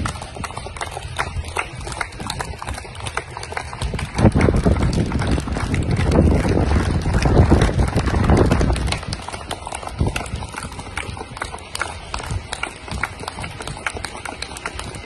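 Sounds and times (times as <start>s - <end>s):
low rumble: 0.0s - 14.0s
crowd clapping: 0.0s - 15.0s.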